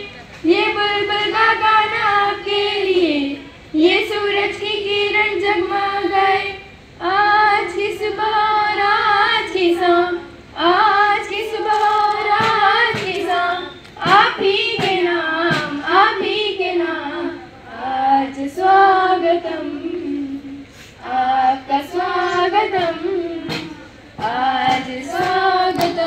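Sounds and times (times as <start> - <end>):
girls singing together: 0.0 - 26.0.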